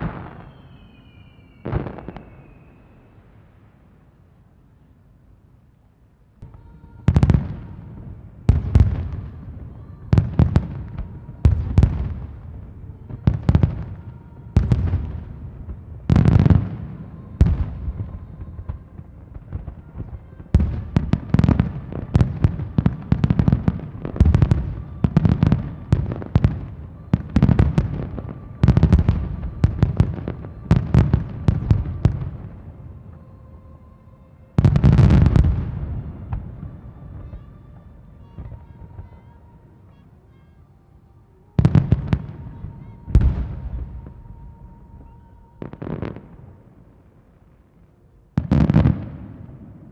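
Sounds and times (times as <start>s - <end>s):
fireworks bursting: 0.0s - 4.1s, 6.4s - 33.5s, 34.6s - 40.6s, 41.5s - 49.9s.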